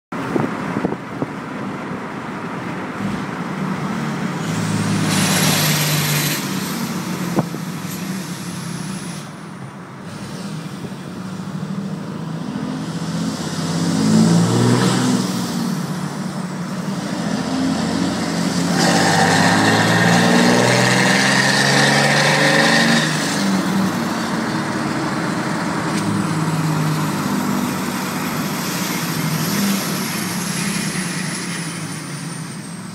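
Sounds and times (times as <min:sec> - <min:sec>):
diesel engine revving: 0:02.9 - 0:09.4, 0:10.0 - 0:32.8.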